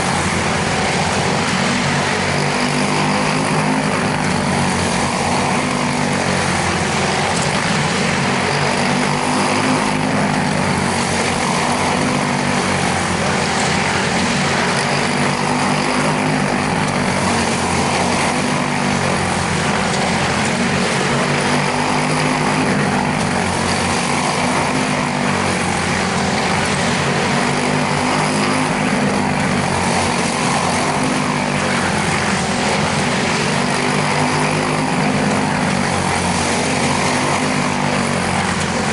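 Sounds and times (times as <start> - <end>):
race car engines racing: 0.0 - 38.9.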